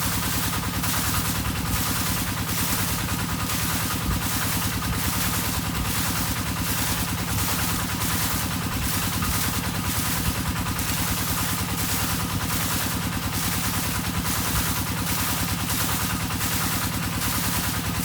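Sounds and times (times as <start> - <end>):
water pump engine running: 0.0 - 18.0.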